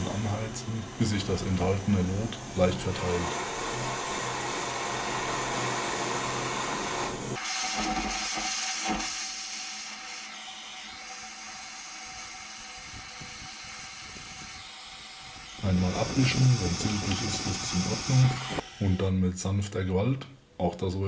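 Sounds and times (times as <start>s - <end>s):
gas torch hissing: 0.0s - 19.2s.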